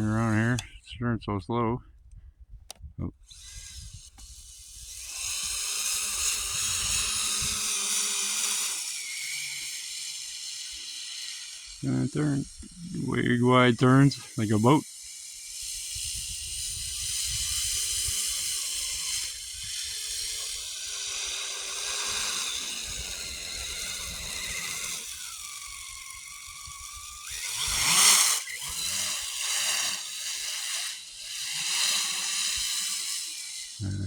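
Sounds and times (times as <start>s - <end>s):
electric motor whining: 3.2s - 34.0s.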